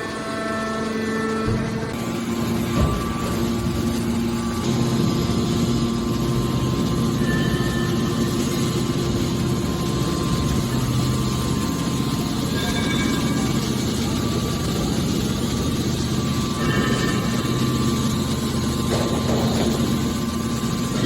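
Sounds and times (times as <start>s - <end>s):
scrap baler machine hum: 0.0s - 21.0s.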